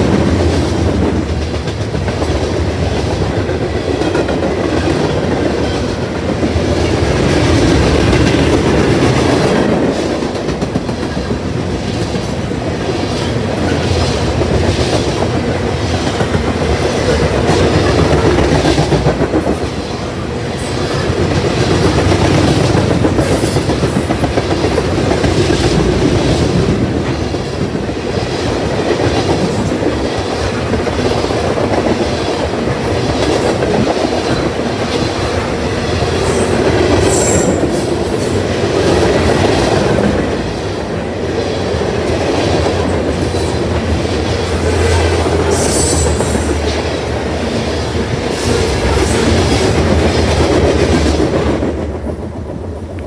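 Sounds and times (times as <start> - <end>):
clickety-clack over rail joints: 0.0 - 53.0
freight train wheels rumbling: 0.0 - 53.0.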